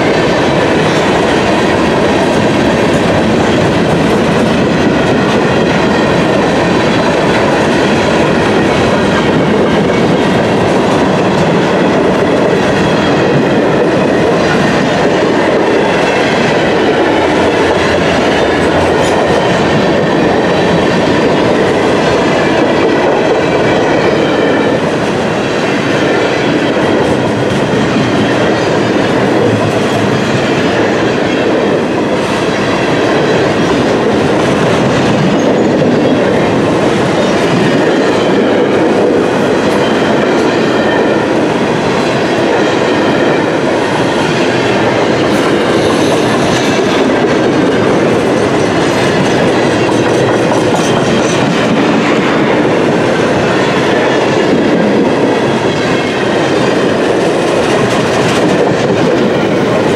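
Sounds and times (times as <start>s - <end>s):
steel train wheels rolling on rails: 0.0s - 59.9s.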